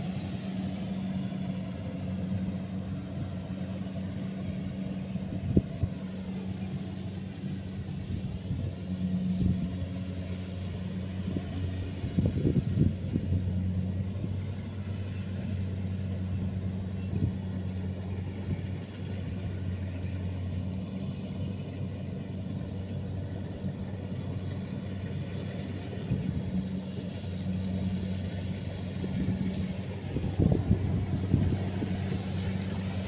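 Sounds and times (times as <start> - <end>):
diesel engine humming: 0.0 - 33.0.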